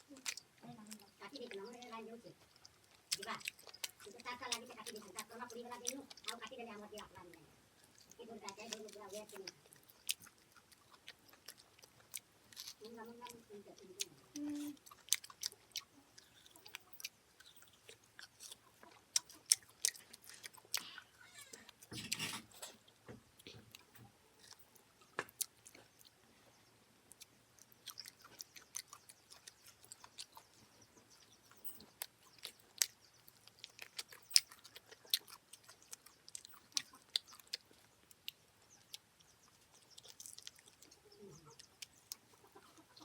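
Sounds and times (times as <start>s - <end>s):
person chewing and crunching food: 0.0s - 43.0s.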